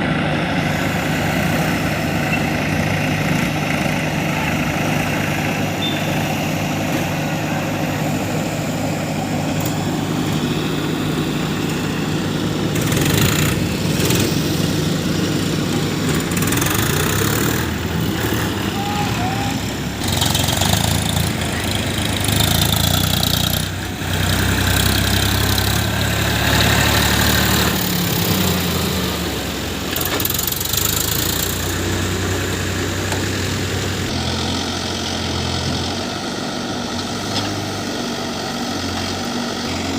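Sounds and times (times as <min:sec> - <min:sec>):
backhoe loader diesel engine: 0:00.0 - 0:39.9.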